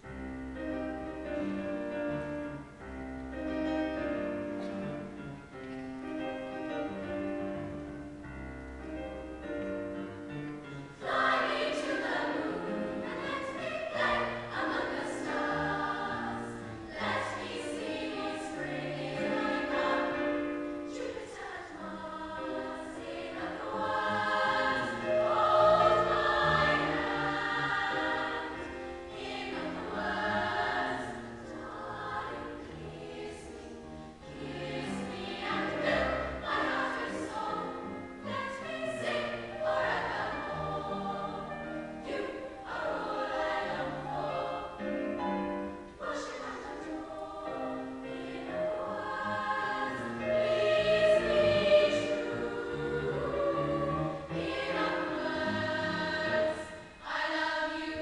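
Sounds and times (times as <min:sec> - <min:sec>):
choir singing in harmony: 0:00.0 - 0:05.3, 0:05.9 - 0:58.0.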